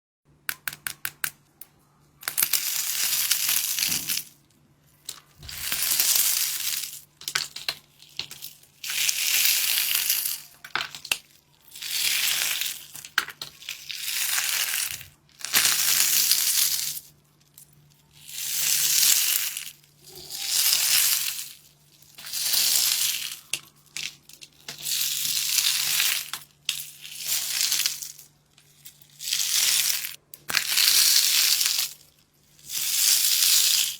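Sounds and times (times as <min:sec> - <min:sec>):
water beads being crushed: 0:02.2 - 0:33.9.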